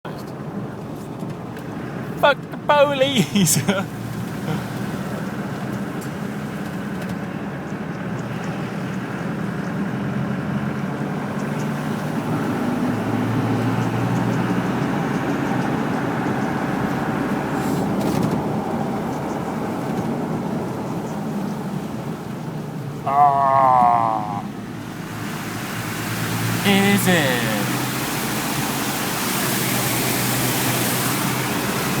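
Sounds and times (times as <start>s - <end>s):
vehicle driving through water: 3.1s - 23.0s, 23.7s - 32.0s.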